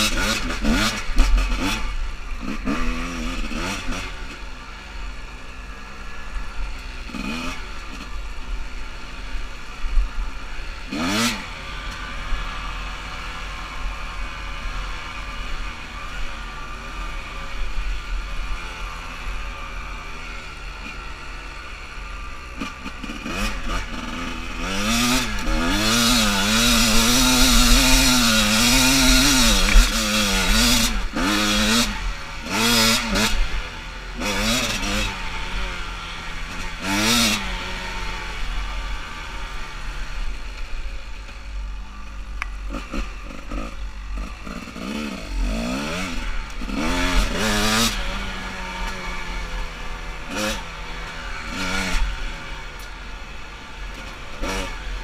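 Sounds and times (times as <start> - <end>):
two-stroke dirt bike engine revving: 0.0 - 55.0.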